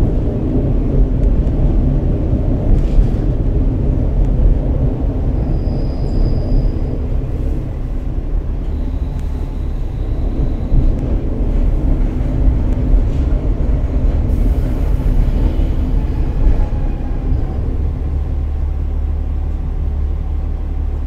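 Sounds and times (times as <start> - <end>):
railcar engine and wheels rumbling: 0.0 - 21.0.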